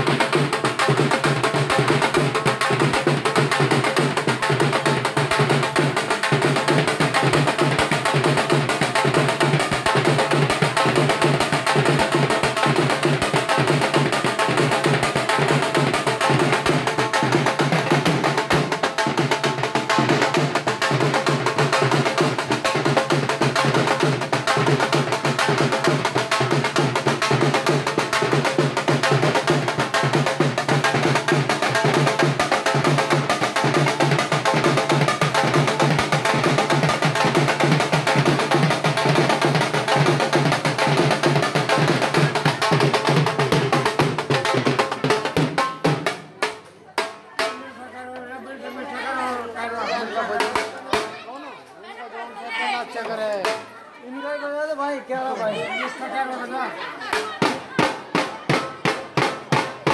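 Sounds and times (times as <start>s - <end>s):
drums beaten with sticks: 0.0s - 48.3s, 50.2s - 51.2s, 52.9s - 53.7s, 57.0s - 59.9s.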